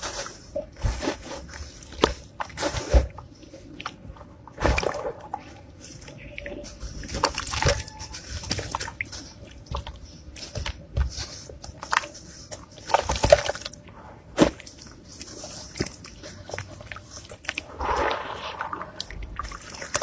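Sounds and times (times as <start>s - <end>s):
water sloshing and dripping: 0.0s - 20.0s
wet squelching and crumbling: 0.0s - 20.0s.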